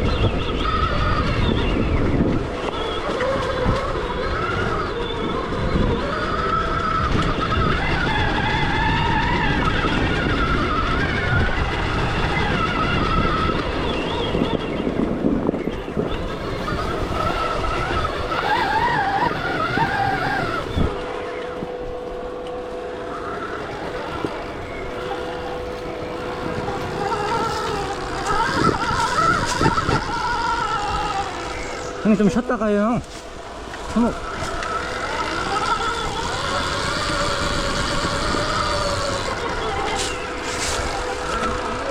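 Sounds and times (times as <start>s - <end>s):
bike rumbling on rough ground: 0.0s - 41.9s
electric motor whine: 0.0s - 41.9s.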